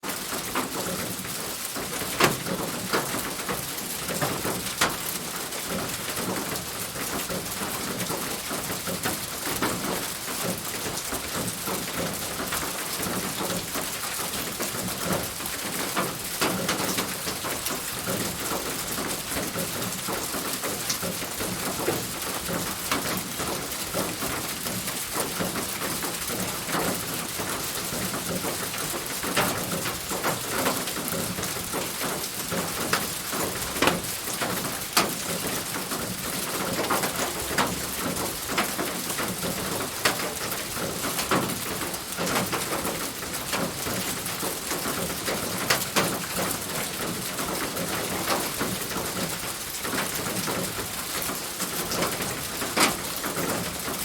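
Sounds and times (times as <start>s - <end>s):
rain on a roof: 0.0s - 54.0s
raindrops pattering on roof: 0.0s - 54.0s.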